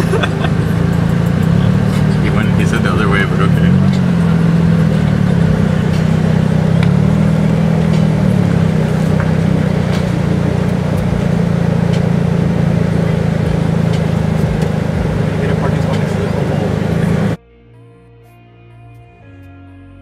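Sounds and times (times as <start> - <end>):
car engine droning: 0.0 - 17.4.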